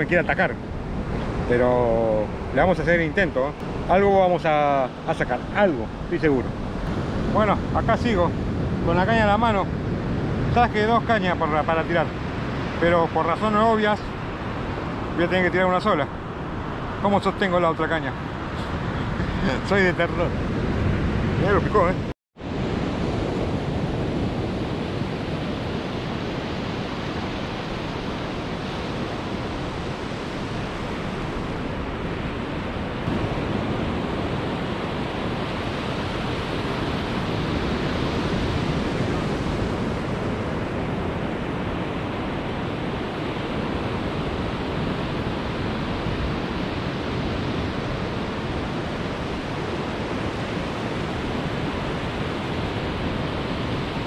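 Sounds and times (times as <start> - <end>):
ocean surf breaking on beach: 0.0 - 54.0
wind on microphone: 0.0 - 54.0.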